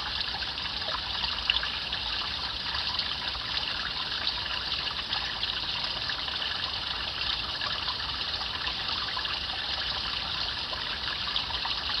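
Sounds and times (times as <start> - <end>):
stream babbling: 0.0 - 12.0.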